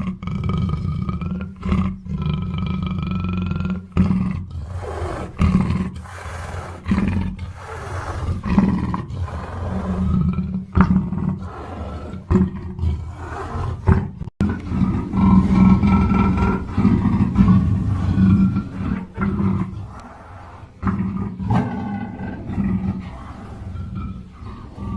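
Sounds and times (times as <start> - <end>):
panther roaring and growling: 0.0 - 24.9.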